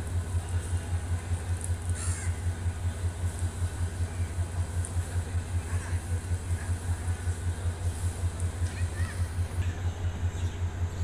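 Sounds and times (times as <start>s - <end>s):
engine idling with low throb: 0.0s - 11.0s.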